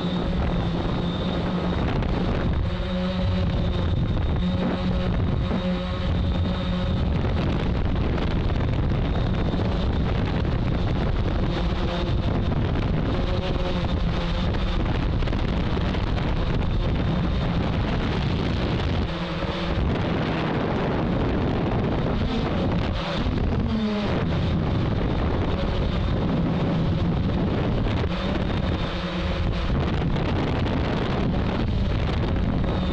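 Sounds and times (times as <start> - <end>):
drone motors humming: 0.0 - 32.9
wind rumble on microphone: 0.0 - 32.9.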